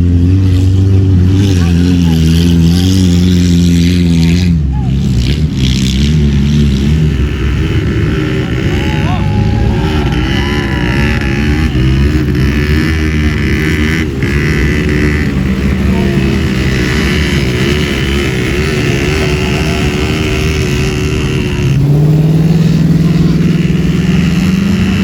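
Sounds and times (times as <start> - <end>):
car engine running under load: 0.0 - 25.0.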